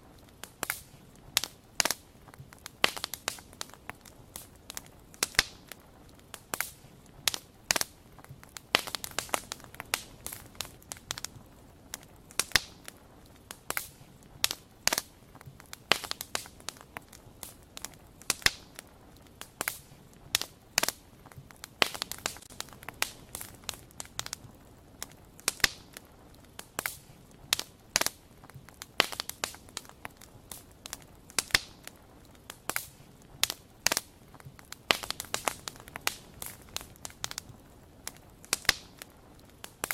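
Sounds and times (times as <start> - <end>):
faint soft hiss: 0.0 - 39.9
wood fire crackling: 0.0 - 39.9.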